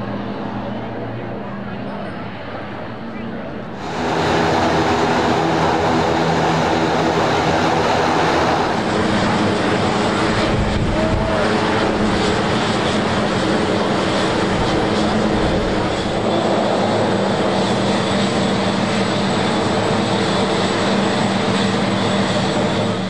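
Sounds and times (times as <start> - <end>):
turboprop engines droning: 0.0 - 23.0.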